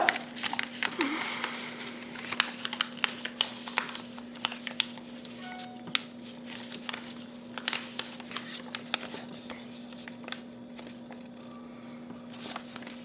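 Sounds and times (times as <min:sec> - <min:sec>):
paper rustling and crinkling: 0:00.0 - 0:11.4, 0:12.2 - 0:13.0
steady low hum: 0:00.0 - 0:13.0.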